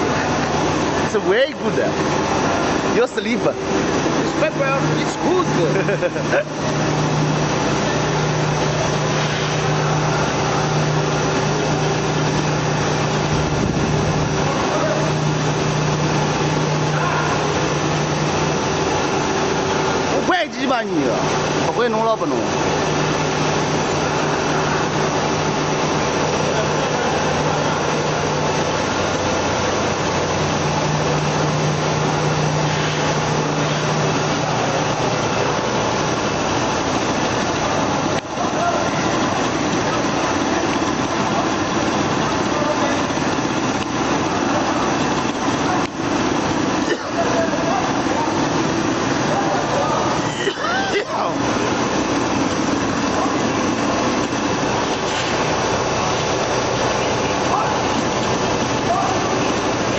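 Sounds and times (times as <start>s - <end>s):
paper machine low hum: 0.0s - 59.9s
rollers and drives running: 0.0s - 59.9s.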